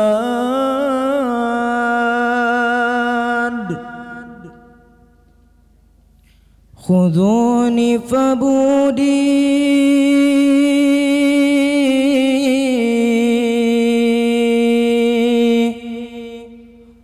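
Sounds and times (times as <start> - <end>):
man singing into microphone: 0.0 - 4.8, 6.8 - 16.8.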